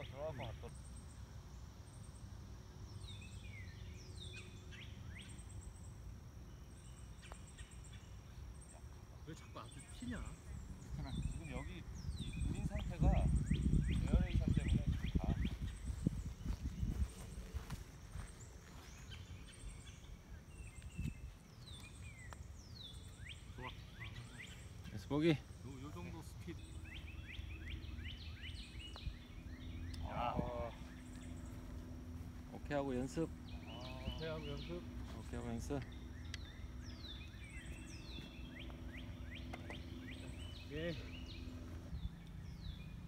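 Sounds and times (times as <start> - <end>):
birds whistling: 0.0 - 43.0
high insect drone: 0.0 - 43.0
low outdoor rumble: 0.1 - 43.0.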